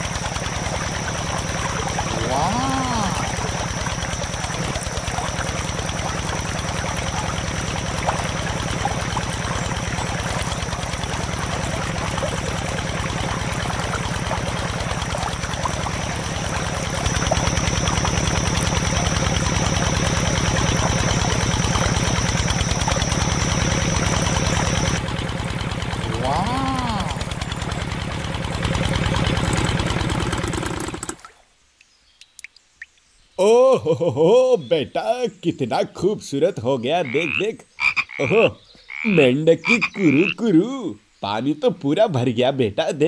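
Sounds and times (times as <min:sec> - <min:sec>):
diesel engine chugging: 0:00.0 - 0:31.2, 0:34.1 - 0:40.6.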